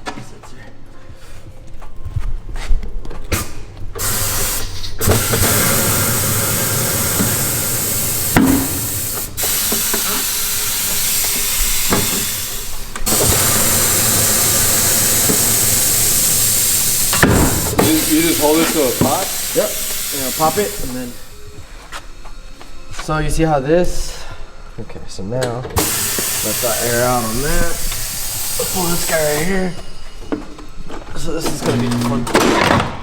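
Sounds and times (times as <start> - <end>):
compressed air hissing: 3.4 - 24.8, 25.8 - 31.5.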